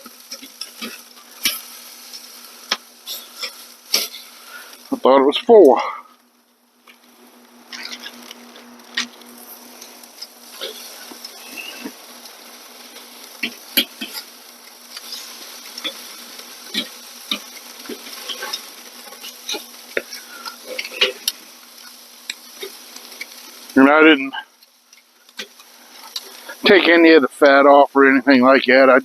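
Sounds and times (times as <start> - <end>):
chicken sizzling on a grill: 0.0 - 29.0
fat crackling and popping: 0.0 - 29.0.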